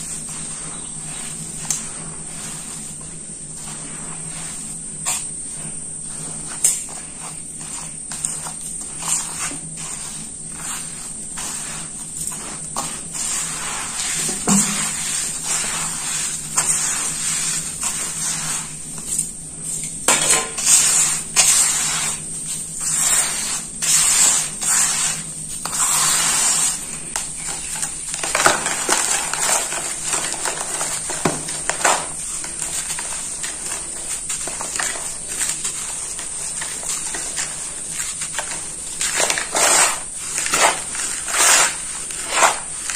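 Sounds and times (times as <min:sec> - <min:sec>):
hands crumbling powder in metal bowl: 0:00.0 - 0:42.9.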